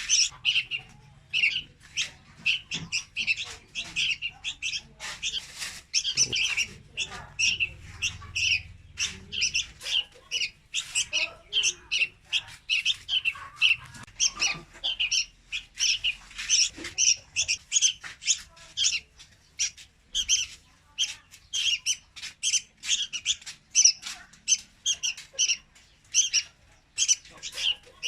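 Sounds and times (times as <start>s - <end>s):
bulbuls chirping: 0.0s - 28.0s.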